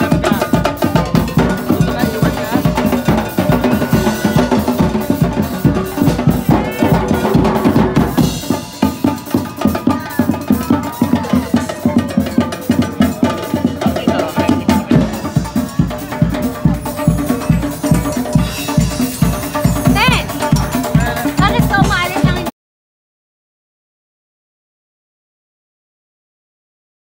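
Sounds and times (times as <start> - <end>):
drums playing fast rhythm: 0.0 - 22.5.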